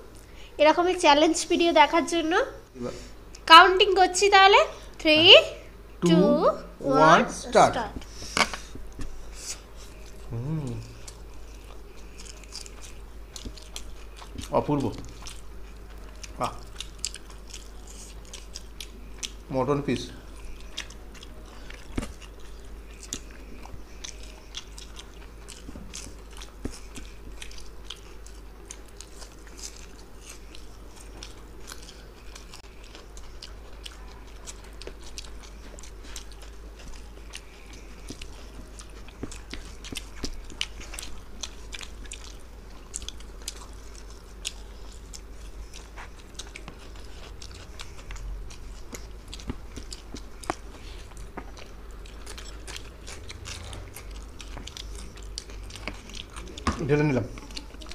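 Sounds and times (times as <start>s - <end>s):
low steady hum: 0.0s - 57.9s
people chewing food: 0.0s - 57.9s.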